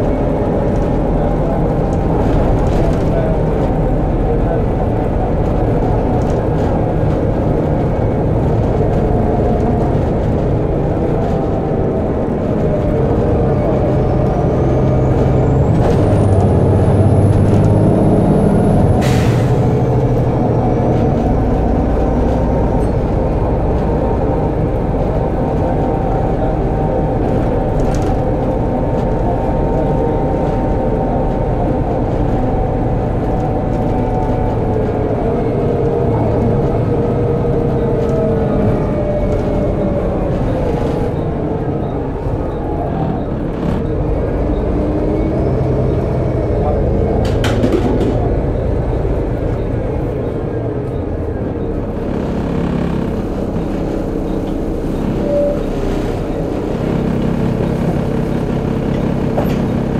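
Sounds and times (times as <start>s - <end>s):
diesel bus engine drone: 0.0s - 59.9s.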